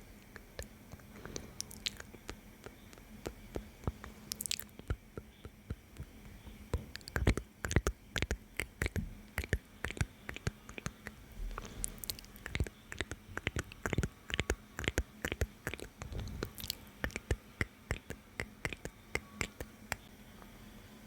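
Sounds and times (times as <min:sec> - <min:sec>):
wet lip and tongue clicks: 0:00.2 - 0:06.1, 0:06.8 - 0:11.2, 0:11.8 - 0:20.0.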